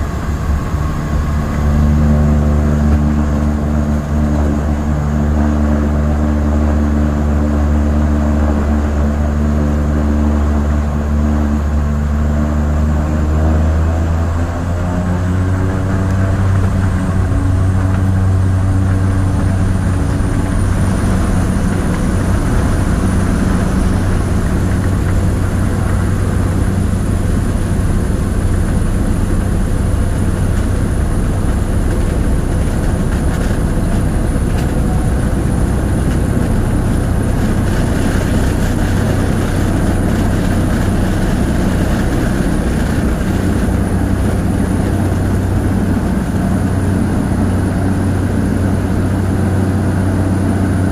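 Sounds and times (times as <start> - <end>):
high turbine whine: 0.0 - 50.9
turboprop engine drone: 0.0 - 50.9.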